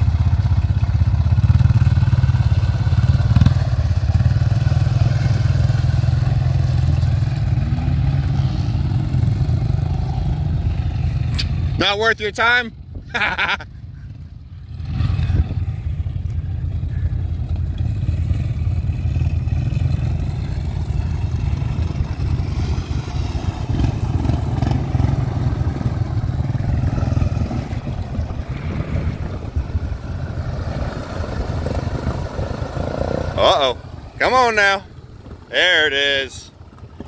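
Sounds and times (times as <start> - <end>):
atv engine running hard: 0.0 - 37.0.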